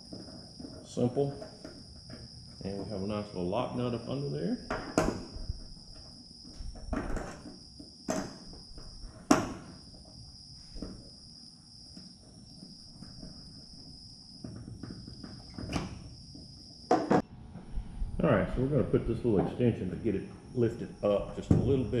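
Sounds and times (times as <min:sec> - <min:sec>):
steady high-pitched whine: 0:00.0 - 0:22.0.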